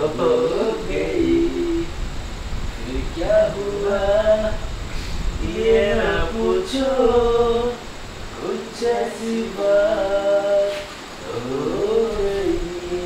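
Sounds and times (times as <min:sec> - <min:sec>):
person singing unaccompanied: 0:00.0 - 0:02.1, 0:02.8 - 0:13.0.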